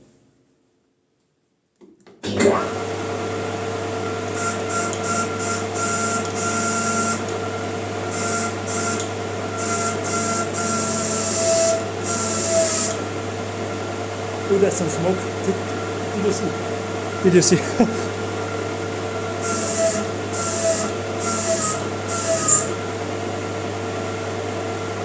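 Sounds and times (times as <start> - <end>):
metal lathe humming and whining: 3.8 - 25.0.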